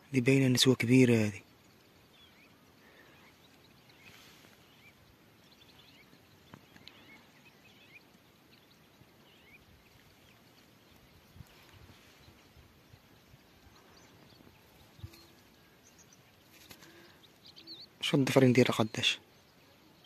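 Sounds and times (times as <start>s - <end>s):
small birds chirping faintly: 0.0s - 20.0s.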